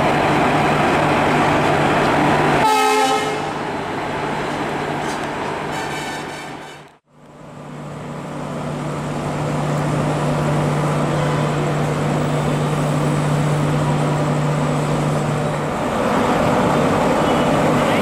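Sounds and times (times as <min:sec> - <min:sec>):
electric locomotive hum: 0:00.0 - 0:18.0
train running noise: 0:00.0 - 0:18.0.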